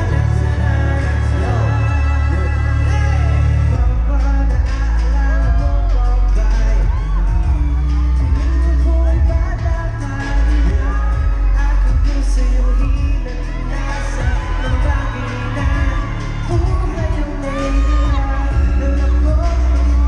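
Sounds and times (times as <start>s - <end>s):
male vocal group singing: 0.0s - 20.0s
pop backing track with booming bass: 0.0s - 20.0s.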